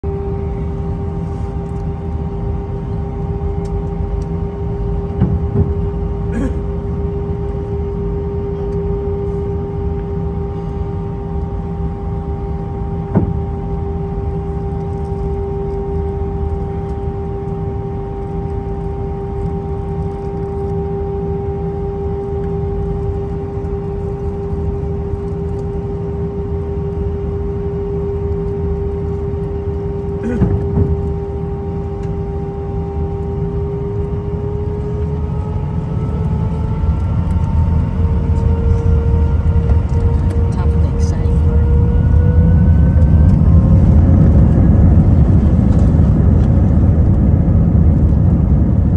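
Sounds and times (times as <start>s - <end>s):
aircraft cabin engine drone: 0.0s - 48.9s.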